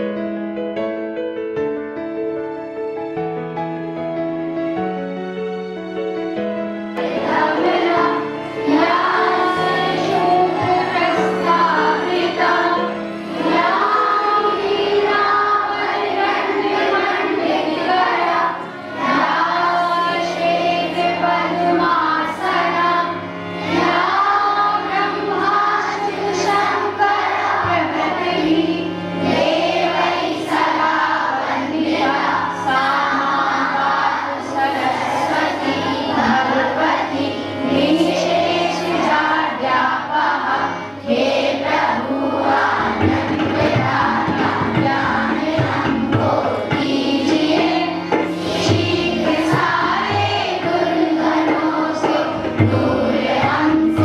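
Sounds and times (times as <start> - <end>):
children singing as a choir: 7.0 - 54.0.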